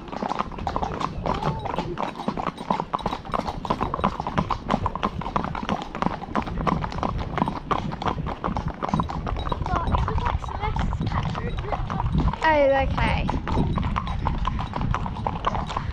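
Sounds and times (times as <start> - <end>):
hooves clip-clopping on tarmac: 0.0 - 15.9.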